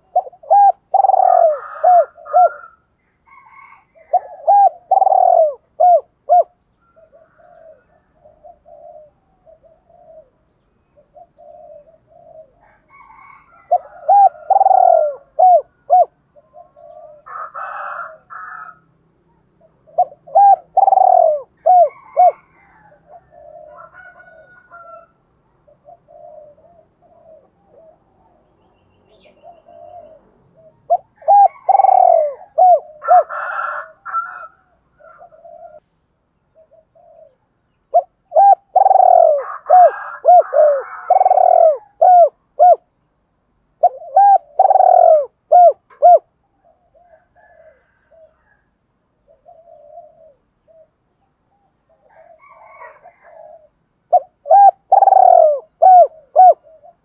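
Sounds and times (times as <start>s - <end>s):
dove cooing: 0.0s - 18.8s, 19.5s - 28.5s, 29.1s - 35.8s, 36.5s - 43.0s, 43.7s - 57.0s.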